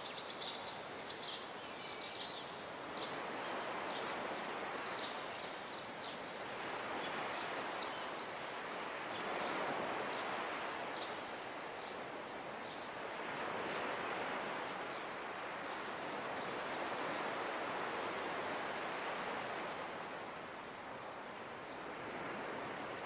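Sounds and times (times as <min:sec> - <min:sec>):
surf washing on beach: 0:00.9 - 0:23.0.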